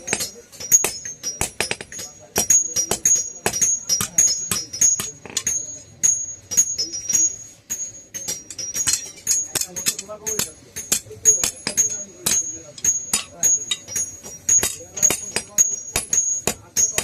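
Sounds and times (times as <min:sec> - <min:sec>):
hammer striking iron on anvil: 0:00.0 - 0:17.0.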